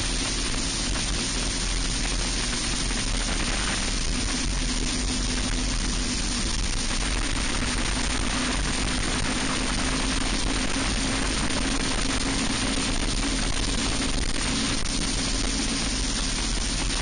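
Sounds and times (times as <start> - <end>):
kart engine running hard: 0.0 - 17.0
wind and tyre noise: 0.0 - 17.0.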